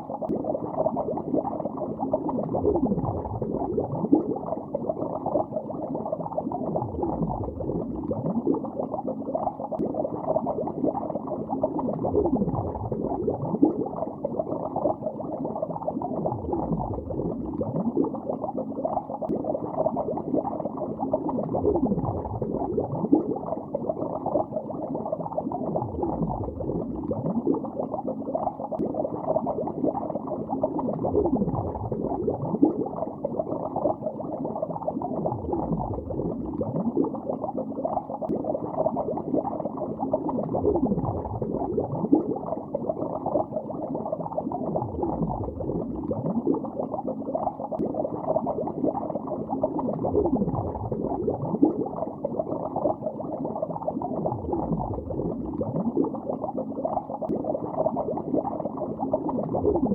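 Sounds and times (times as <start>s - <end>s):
underwater bubbling: 0.0s - 59.9s.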